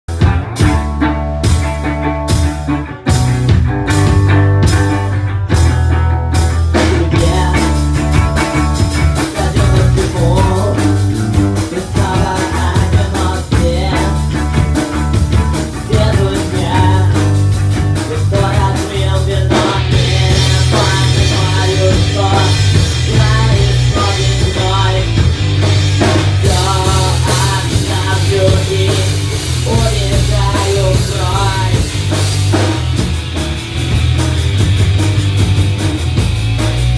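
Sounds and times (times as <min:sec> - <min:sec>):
rock song with singing: 0:00.1 - 0:36.9.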